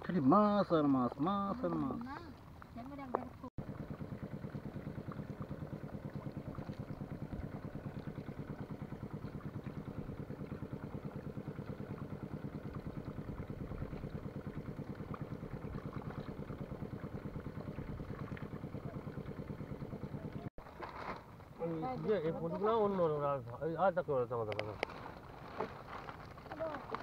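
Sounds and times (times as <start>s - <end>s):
small engine idling: 0.0s - 27.0s.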